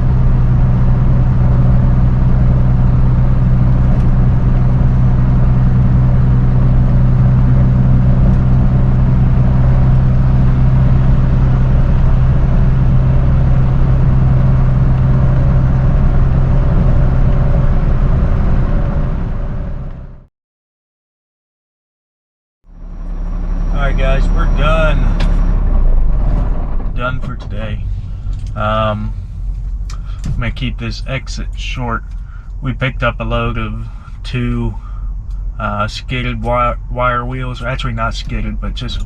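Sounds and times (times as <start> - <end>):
truck engine and road noise: 0.0 - 20.3, 22.7 - 39.0.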